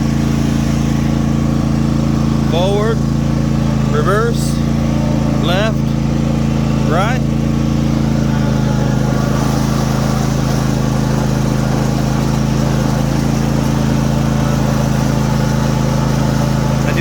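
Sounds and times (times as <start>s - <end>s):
mower engine running: 0.0s - 17.0s.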